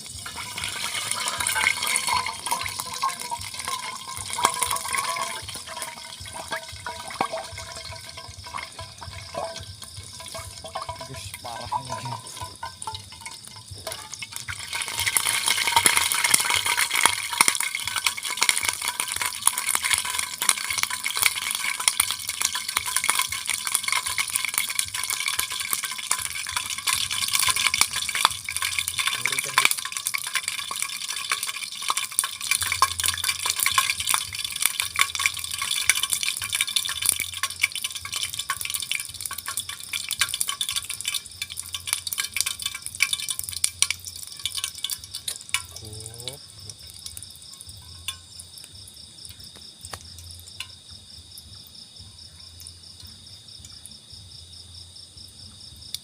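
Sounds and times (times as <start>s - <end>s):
food frying in hot oil: 0.0s - 56.0s.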